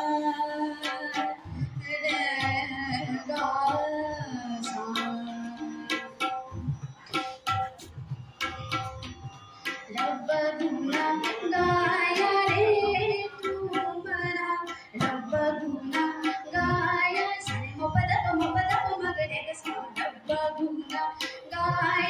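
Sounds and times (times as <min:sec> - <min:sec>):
girl singing into a microphone: 0:00.0 - 0:06.8, 0:09.9 - 0:22.0
tabla drumming: 0:00.0 - 0:22.0.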